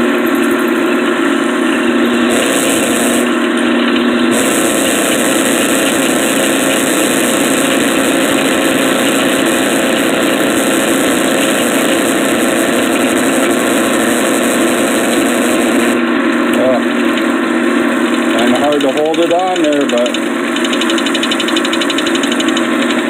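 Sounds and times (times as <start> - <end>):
electric drill drilling metal: 0.0 - 16.0, 17.0 - 23.0
sawmill engine hum: 0.0 - 23.0.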